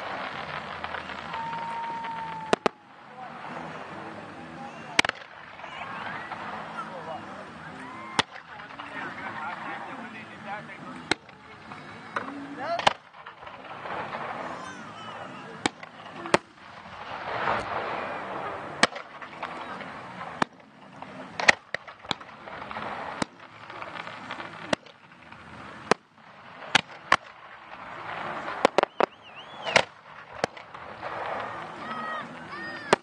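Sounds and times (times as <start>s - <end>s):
fireworks bursting with bangs: 0.0s - 33.0s
hissing crackling haze: 0.0s - 33.0s.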